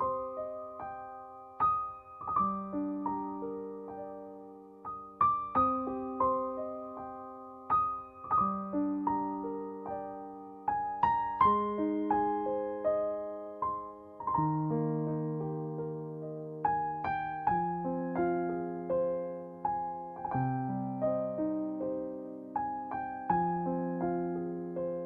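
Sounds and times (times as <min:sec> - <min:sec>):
solo piano playing gentle chords: 0:00.0 - 0:25.0.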